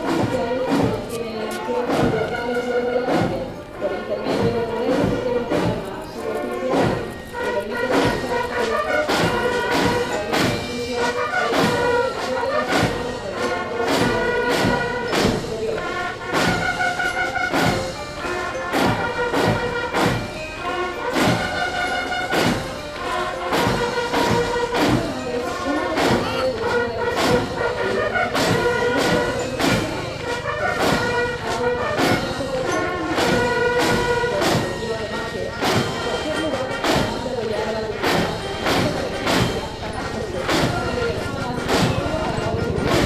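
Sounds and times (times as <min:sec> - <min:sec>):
brass: 0:00.0 - 0:43.0
steady drum beat: 0:00.0 - 0:43.0.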